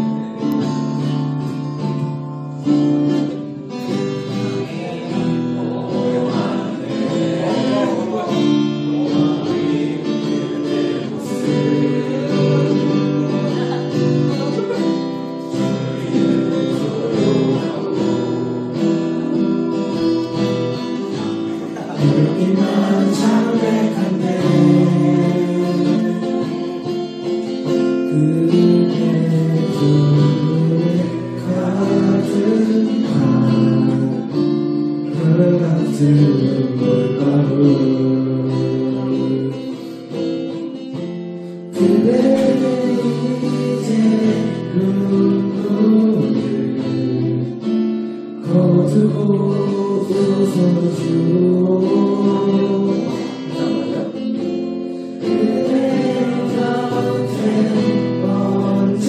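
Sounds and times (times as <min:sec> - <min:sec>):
group singing: 0:00.0 - 0:47.6, 0:48.4 - 0:59.0
acoustic guitar strumming: 0:00.0 - 0:59.0.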